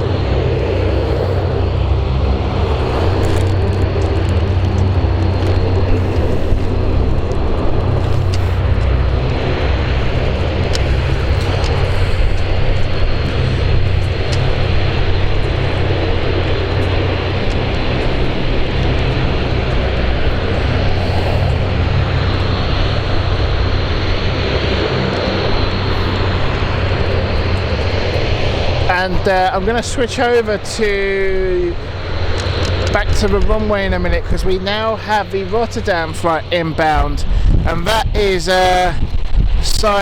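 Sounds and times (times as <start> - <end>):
aircraft engines droning: 0.0 - 40.0.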